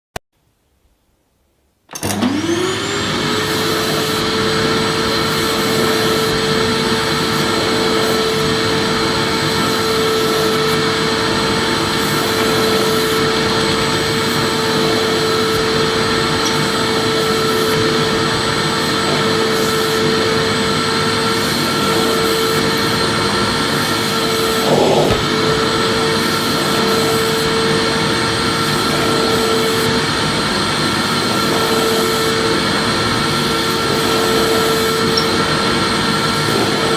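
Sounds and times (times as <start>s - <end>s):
vacuum cleaner running: 1.9s - 36.9s.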